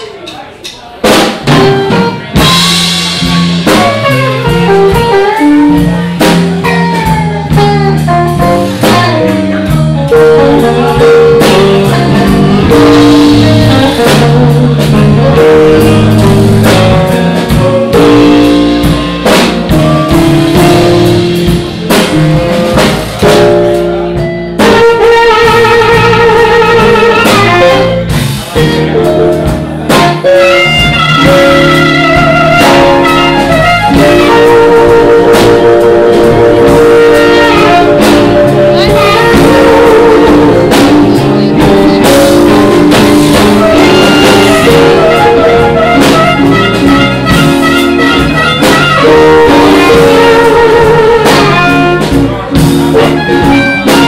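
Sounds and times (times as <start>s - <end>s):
live blues band: 0.0s - 54.0s
electric guitar: 1.1s - 54.0s.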